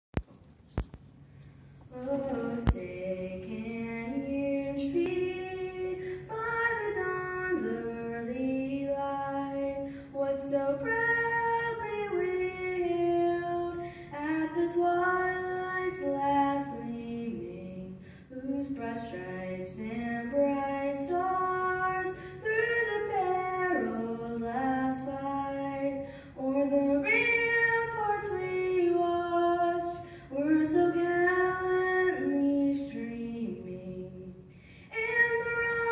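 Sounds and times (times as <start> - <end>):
woman singing unaccompanied: 1.9 - 35.9.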